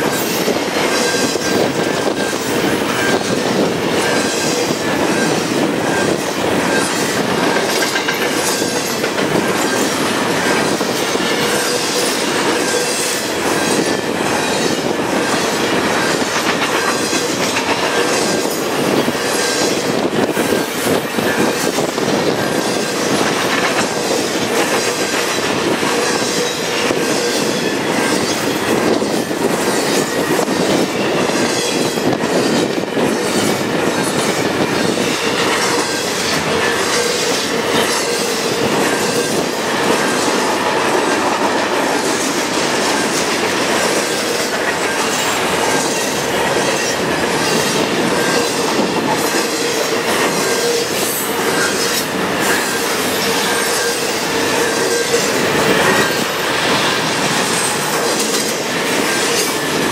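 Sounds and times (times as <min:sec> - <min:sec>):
freight train wheels rumbling: 0:00.0 - 0:59.9
wheel clacks on rail: 0:00.0 - 0:59.9.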